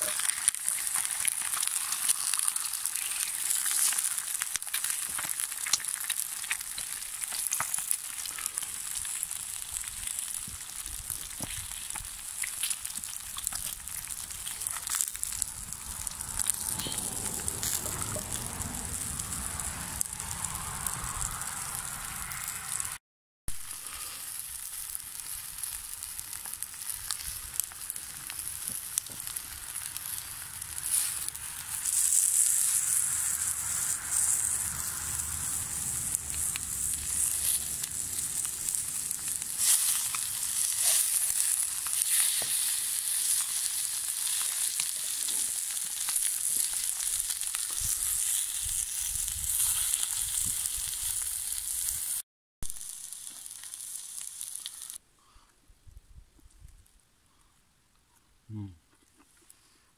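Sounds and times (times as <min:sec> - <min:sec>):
food sizzling in a frying pan: 0:00.0 - 0:22.9, 0:23.5 - 0:55.0
wood fire crackles: 0:00.0 - 0:55.0.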